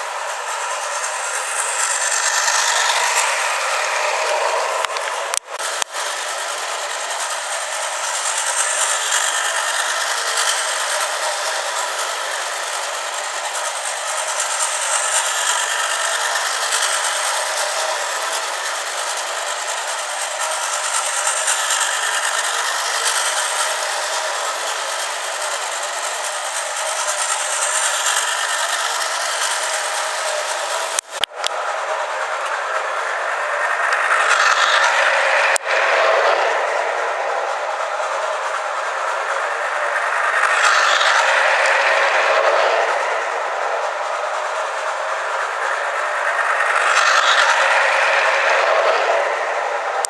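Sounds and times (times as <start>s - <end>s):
toy train motor buzzing: 0.0s - 50.0s
toy train wheels rattling: 0.0s - 50.0s.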